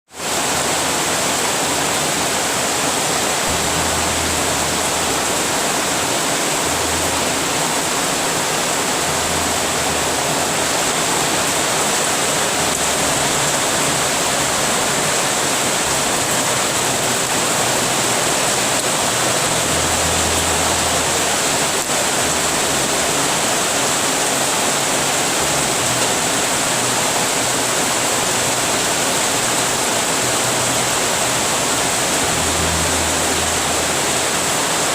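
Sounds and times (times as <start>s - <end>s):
heavy rain: 0.1s - 34.9s.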